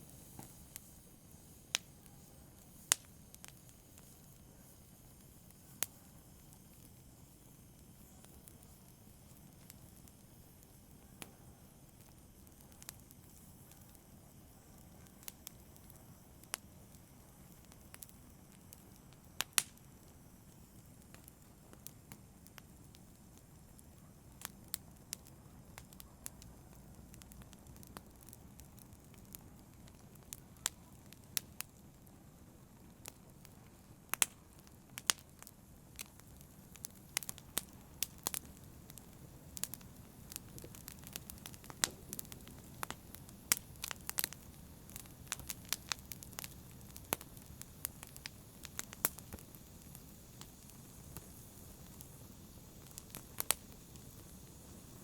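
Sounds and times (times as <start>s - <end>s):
wood crackling and popping: 0.0s - 4.5s, 14.7s - 55.0s
low rumble of flames: 0.0s - 55.0s.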